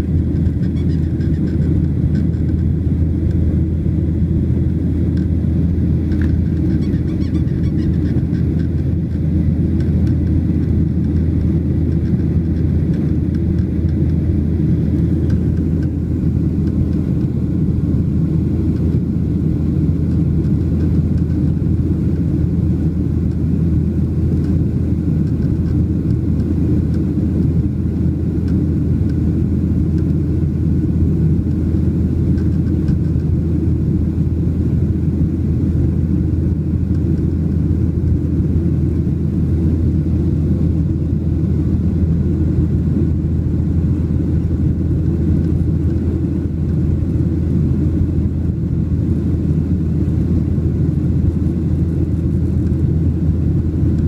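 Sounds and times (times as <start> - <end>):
airplane cabin rumble: 0.0 - 54.0
faint steady whine: 0.0 - 54.0.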